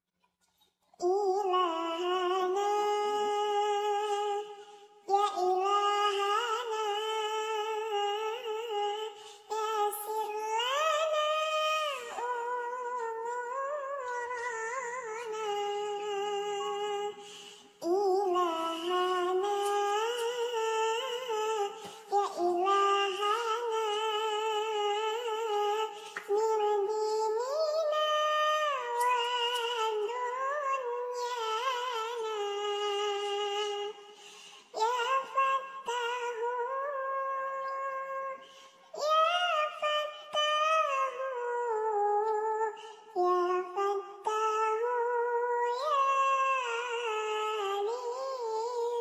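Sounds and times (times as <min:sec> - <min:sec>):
high-pitched voice singing: 0:01.0 - 0:49.0.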